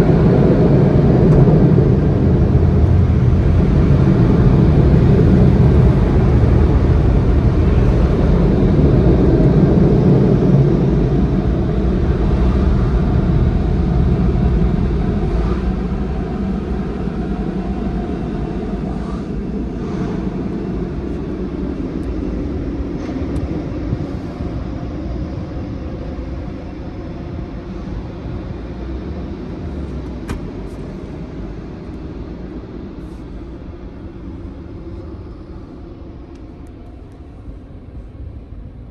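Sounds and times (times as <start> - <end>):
car wash machinery rumbling: 0.0 - 38.9.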